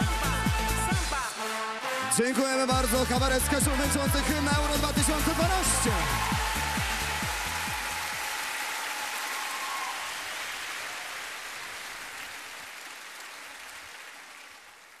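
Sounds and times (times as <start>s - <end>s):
audience applauding: 1.4s - 15.0s.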